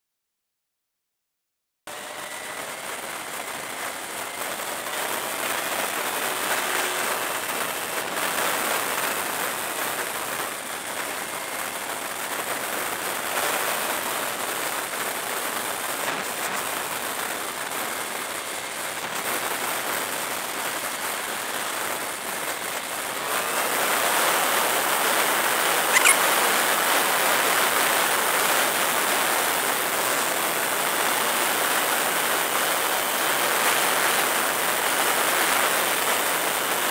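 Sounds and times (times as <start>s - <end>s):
motorcycle wind and road noise: 1.9s - 36.9s.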